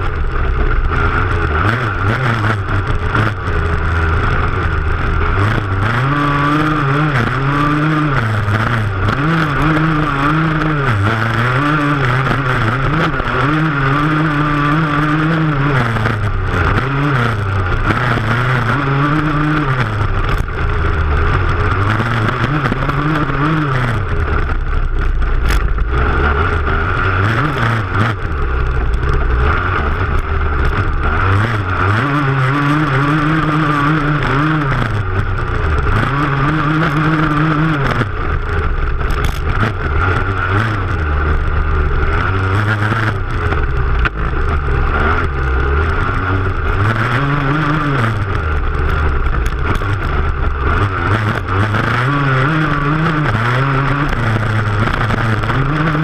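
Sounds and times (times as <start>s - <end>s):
motocross bike engine revving: 0.0s - 56.0s
wind and flying dirt rush: 0.0s - 56.0s.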